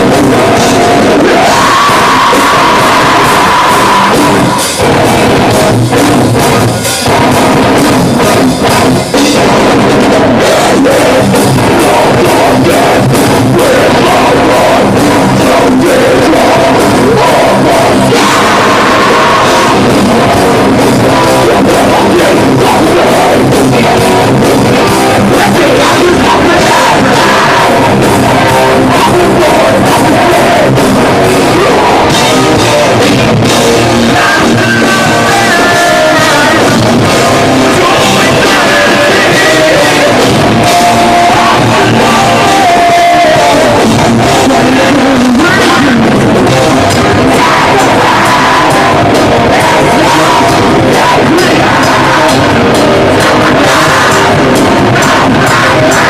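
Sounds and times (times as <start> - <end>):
heavy metal band playing: 0.0 - 56.0
person singing: 0.0 - 56.0.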